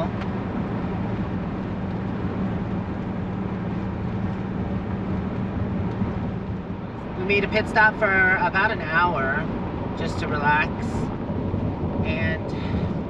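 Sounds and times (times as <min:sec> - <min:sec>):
engine drone: 0:00.0 - 0:13.0
tyre and road noise: 0:00.0 - 0:13.0.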